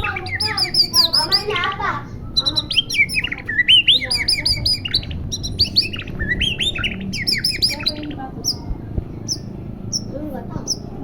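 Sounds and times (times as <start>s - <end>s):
bird singing whistled notes: 0.0s - 1.6s, 2.4s - 8.6s, 9.3s - 10.9s.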